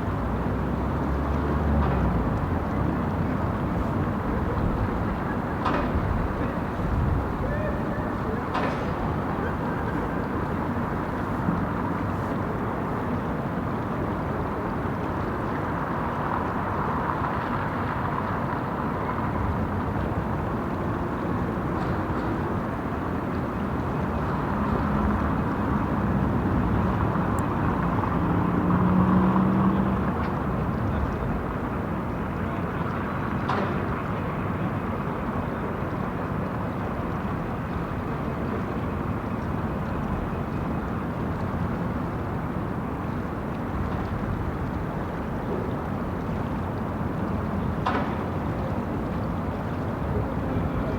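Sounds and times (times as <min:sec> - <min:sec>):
city street traffic: 0:00.0 - 0:50.9.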